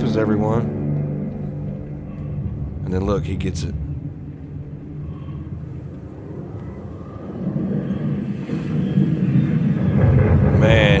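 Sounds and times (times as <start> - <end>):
low soundtrack rumble: 0.0 - 11.0.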